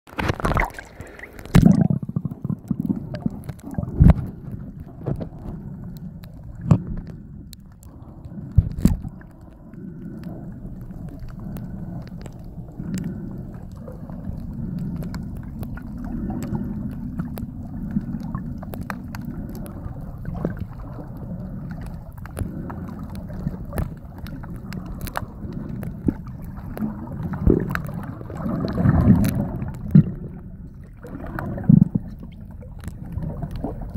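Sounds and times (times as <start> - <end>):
muffled underwater rumble: 0.1 - 33.9
sharp underwater knocks and clicks: 0.1 - 33.9.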